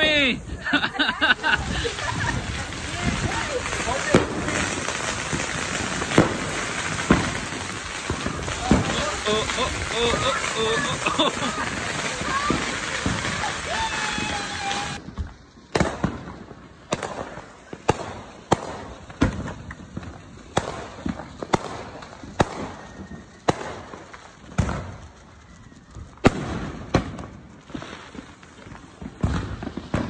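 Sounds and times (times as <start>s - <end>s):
firework bangs: 0.0s - 30.0s
fountain firework hissing: 0.0s - 30.0s.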